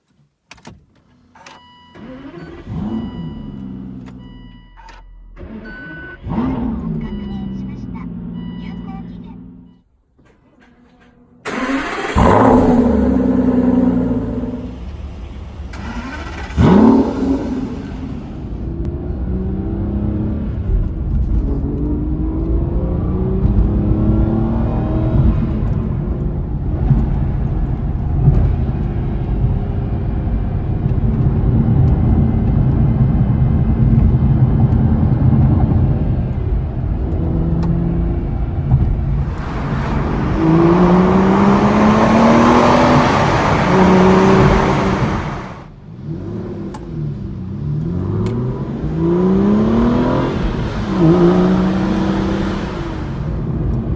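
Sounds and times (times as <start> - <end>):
car engine revving: 2.0 - 4.4, 5.3 - 9.8, 11.4 - 53.9.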